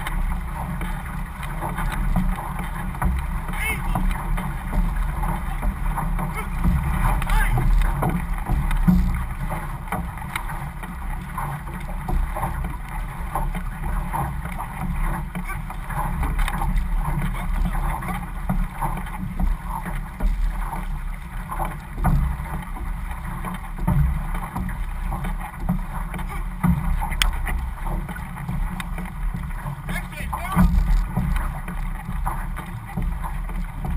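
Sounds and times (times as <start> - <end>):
paddles splashing in water: 0.0 - 33.9
water rushing along hull: 0.0 - 33.9
wind rumble on microphone: 0.0 - 33.9.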